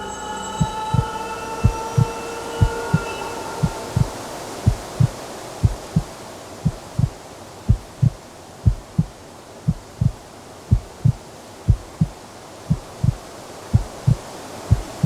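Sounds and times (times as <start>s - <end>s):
faint background noise: 0.0s - 15.0s
heartbeat thumps: 0.6s - 4.1s, 4.7s - 15.0s.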